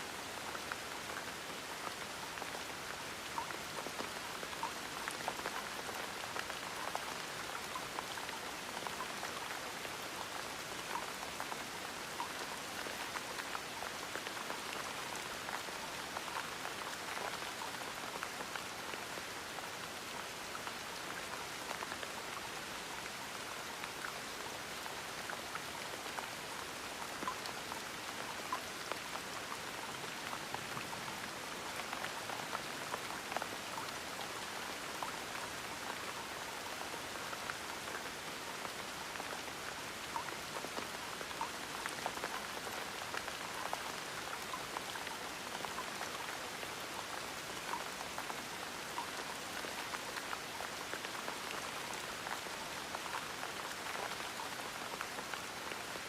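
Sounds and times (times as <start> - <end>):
gentle rain patter: 0.0 - 56.0.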